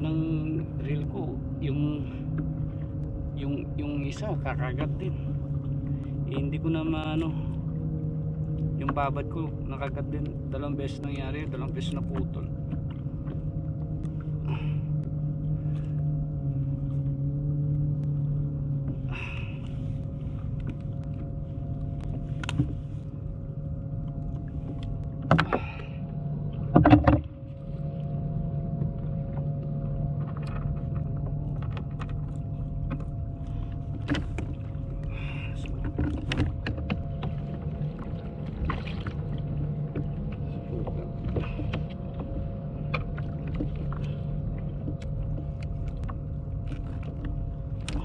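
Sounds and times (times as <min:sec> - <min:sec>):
low motor hum: 0:00.0 - 0:48.0.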